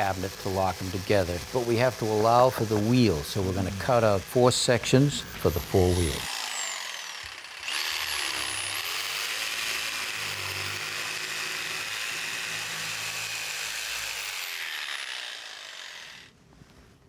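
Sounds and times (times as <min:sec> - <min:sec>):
jigsaw cutting wood: 0:00.0 - 0:16.3.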